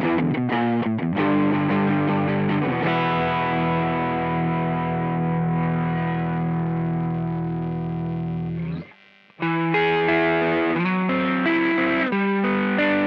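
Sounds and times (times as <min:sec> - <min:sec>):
overdriven electric guitar: 0:00.0 - 0:13.0.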